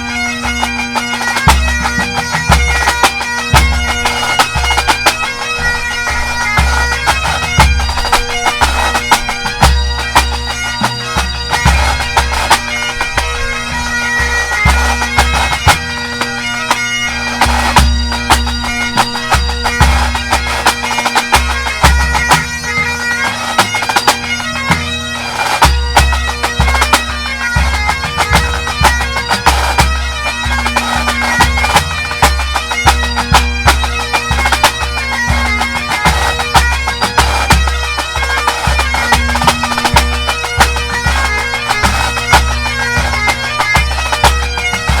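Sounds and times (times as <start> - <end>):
bagpipes melody with drones: 0.0 - 45.0
drums beating: 0.0 - 45.0.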